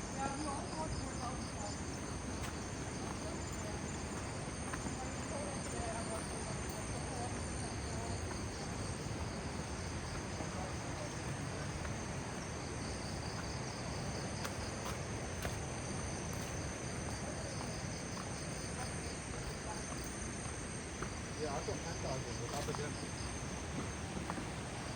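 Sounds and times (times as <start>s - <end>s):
crickets and insects chirping: 0.0s - 24.9s.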